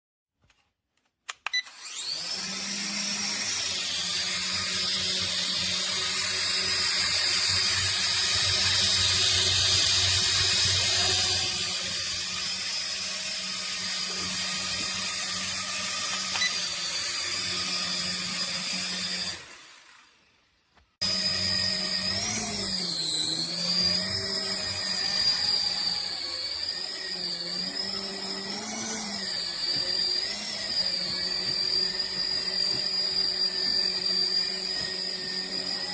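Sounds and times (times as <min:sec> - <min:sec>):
toy helicopter motors whining: 0:01.5 - 0:35.9.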